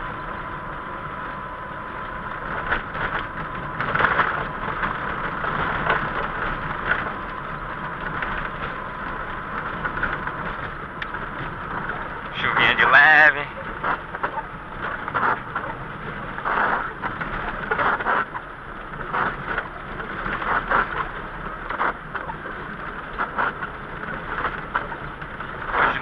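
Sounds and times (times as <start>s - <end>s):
car cabin road noise: 0.0s - 26.0s
light rain: 0.0s - 26.0s.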